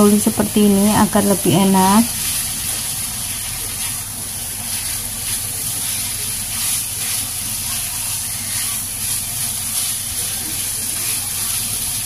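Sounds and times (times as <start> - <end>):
food sizzling in frying pan: 0.0 - 12.0
spatula scraping pan: 1.7 - 11.9.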